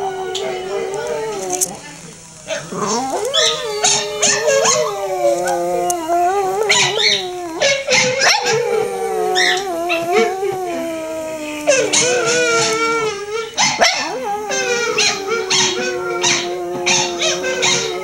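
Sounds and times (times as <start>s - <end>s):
dog howling: 0.0s - 18.0s.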